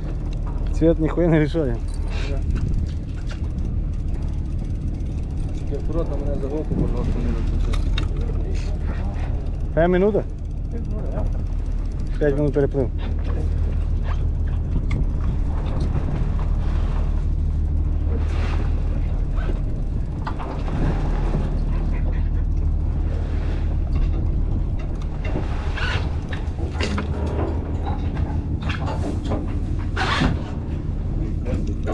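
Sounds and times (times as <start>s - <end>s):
boat motor humming: 0.0s - 31.9s.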